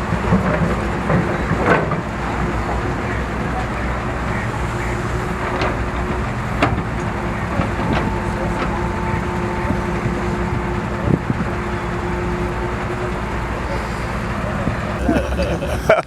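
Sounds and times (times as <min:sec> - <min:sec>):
heavy machinery engines running: 0:00.0 - 0:16.0.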